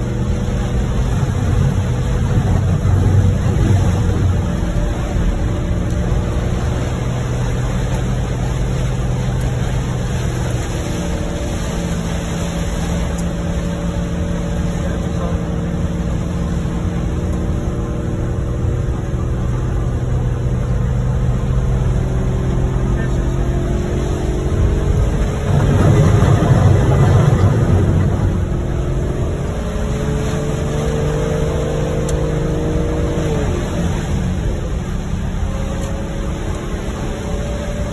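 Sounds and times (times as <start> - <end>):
car engine and tyre noise: 0.0 - 37.9
rain on windscreen: 0.0 - 37.9
windscreen wipers: 0.0 - 37.9.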